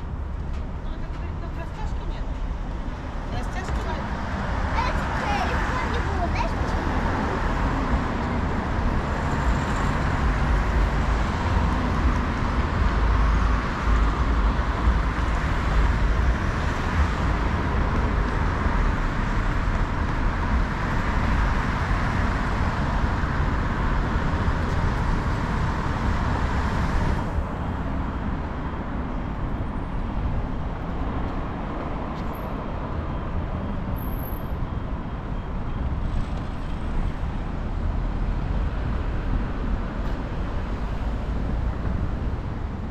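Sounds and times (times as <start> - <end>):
passing cars with low rumble: 0.0 - 42.9.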